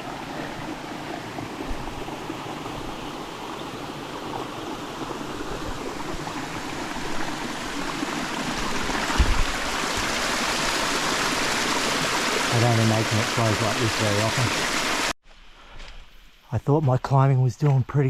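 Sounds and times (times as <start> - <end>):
water rushing through rock: 0.0 - 15.2.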